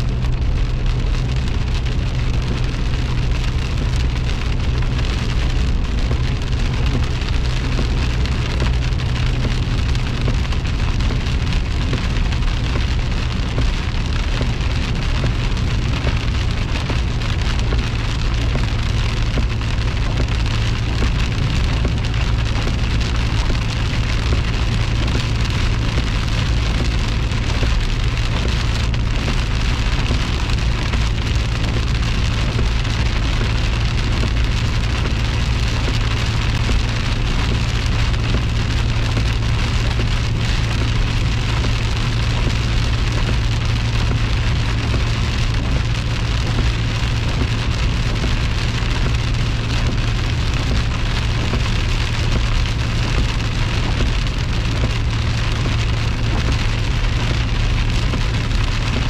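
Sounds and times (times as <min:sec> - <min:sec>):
engine and tyres droning: 0:00.0 - 0:59.0
heavy rain on car windshield: 0:00.0 - 0:59.0.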